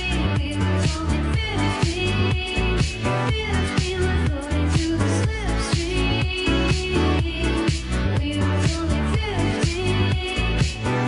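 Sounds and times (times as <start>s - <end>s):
pop dance music: 0.0s - 11.0s.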